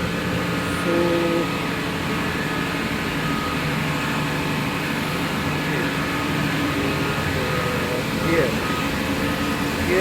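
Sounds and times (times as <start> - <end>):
engine room machinery droning: 0.0 - 10.0.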